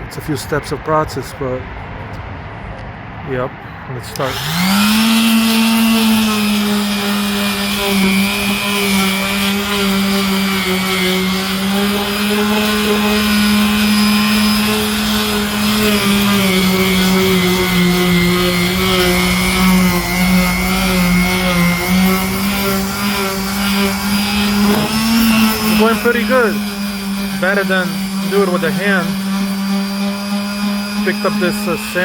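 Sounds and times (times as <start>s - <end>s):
power sander running: 4.0s - 32.0s.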